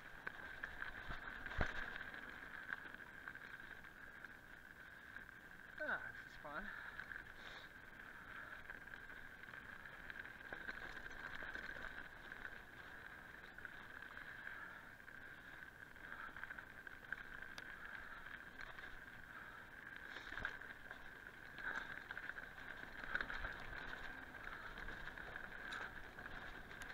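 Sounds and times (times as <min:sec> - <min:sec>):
bike knocking and rattling on bumps: 0:00.0 - 0:05.1, 0:06.8 - 0:26.9
mountain bike buzzing on dirt: 0:00.0 - 0:05.9, 0:06.7 - 0:26.9.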